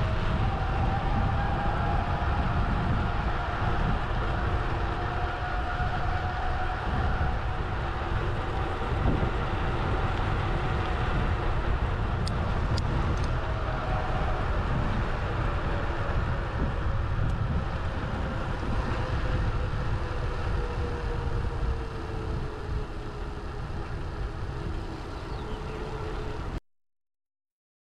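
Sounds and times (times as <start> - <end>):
road noise: 0.0 - 26.6
wind buffeting microphone: 0.0 - 26.6.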